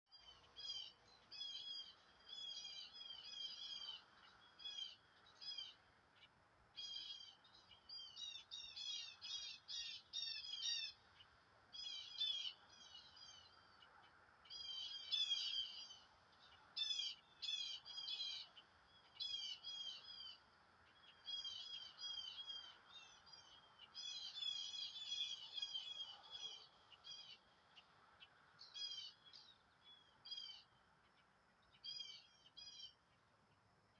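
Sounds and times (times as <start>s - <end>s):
faint background hiss: 0.1s - 33.9s
small songbirds chirping: 0.1s - 33.9s.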